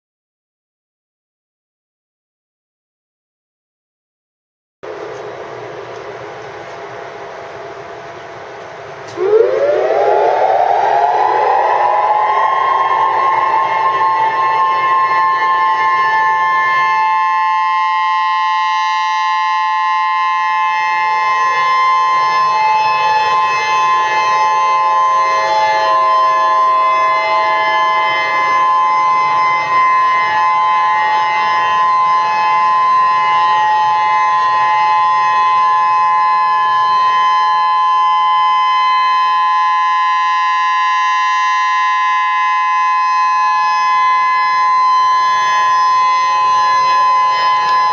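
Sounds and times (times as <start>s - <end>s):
electronic siren steady tone: 8.8s - 47.9s.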